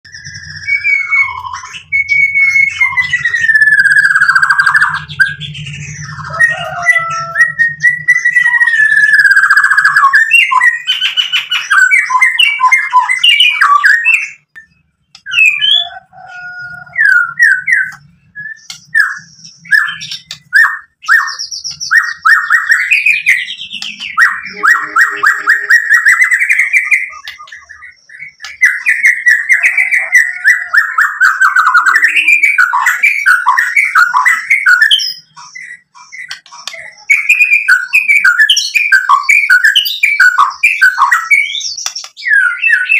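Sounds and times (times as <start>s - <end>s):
bird singing whistled phrases: 0.1s - 42.9s.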